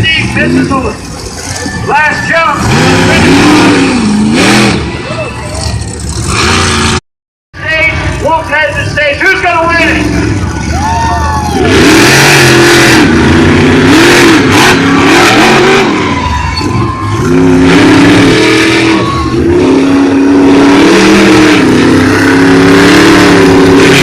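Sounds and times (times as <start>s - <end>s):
monster truck engines racing: 0.0s - 7.0s, 7.6s - 24.0s.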